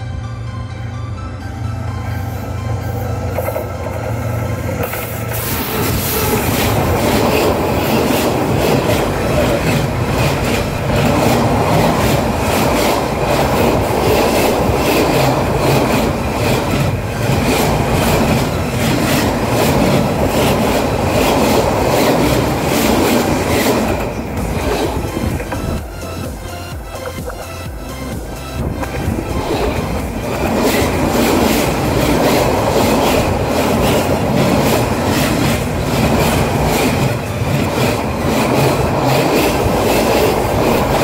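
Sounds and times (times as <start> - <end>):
train wheels clattering on rails: 3.3 - 41.0.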